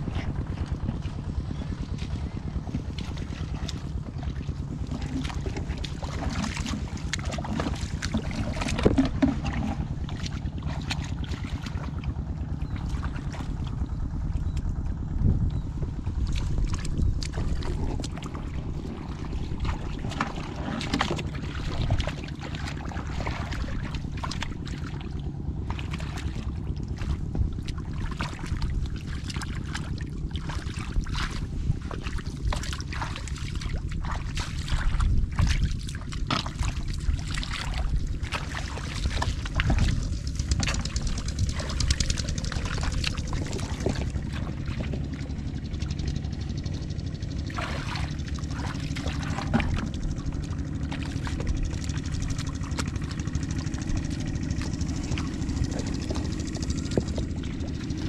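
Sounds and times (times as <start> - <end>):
hands splashing in muddy water: 0.0 - 13.8, 16.2 - 58.0
low rumble: 0.0 - 58.0.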